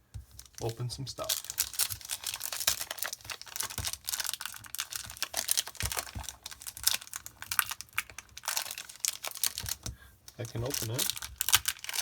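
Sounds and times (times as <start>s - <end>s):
foil wrapper crinkling and tearing: 0.4s - 12.0s.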